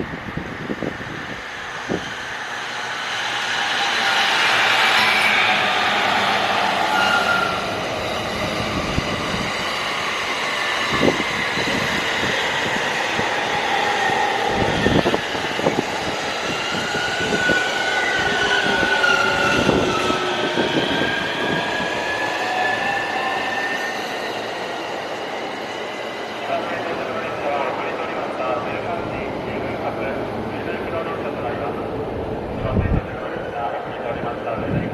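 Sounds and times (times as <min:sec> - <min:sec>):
electric train slowing: 0:00.1 - 0:29.7.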